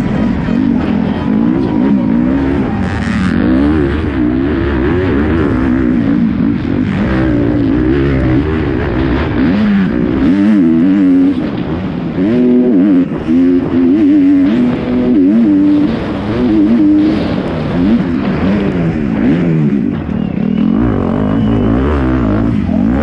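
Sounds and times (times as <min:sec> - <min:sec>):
motocross engine revving hard: 0:00.0 - 0:23.0.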